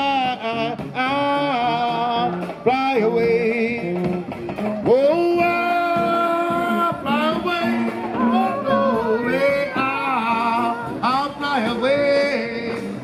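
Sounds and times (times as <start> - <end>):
bass drum: 0.0 - 13.0
brass band playing: 0.0 - 13.0.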